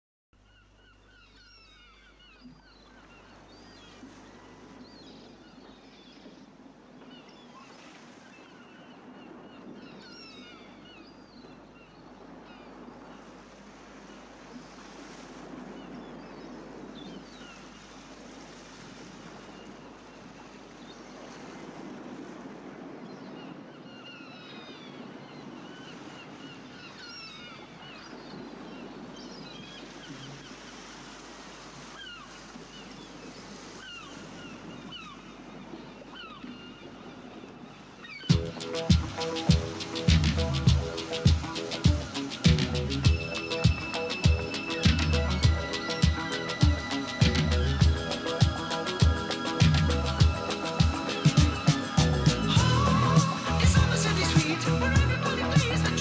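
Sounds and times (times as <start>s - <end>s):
surf washing in: 2.9s - 56.0s.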